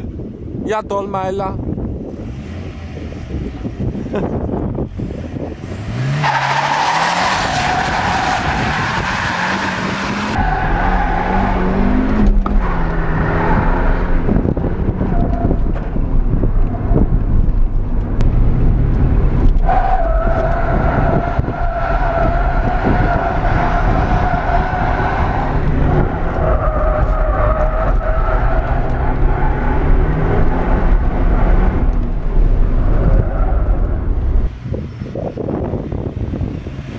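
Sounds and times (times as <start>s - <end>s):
car engine running hard: 1.8s - 36.9s.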